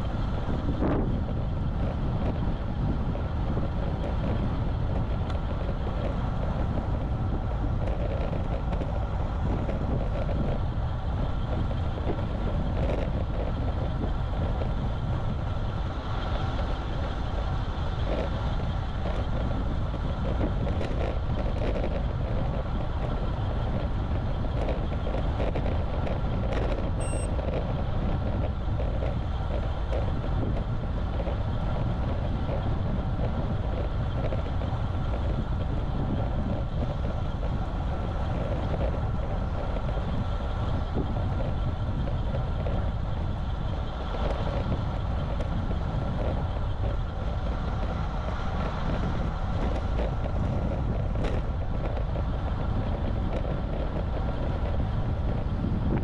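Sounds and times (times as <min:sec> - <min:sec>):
bike tyre and road noise: 0:00.0 - 0:56.0
wind noise on microphone: 0:00.0 - 0:56.0.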